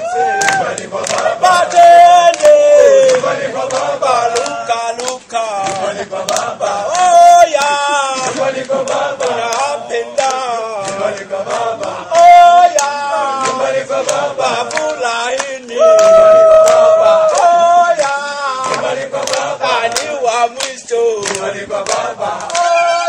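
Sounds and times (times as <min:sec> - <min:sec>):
group of voices singing chant: 0:00.0 - 0:23.0.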